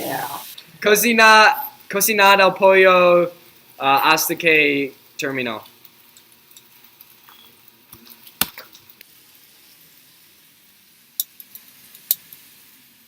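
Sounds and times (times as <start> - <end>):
chicken frying in a pan: 0.0 - 13.0.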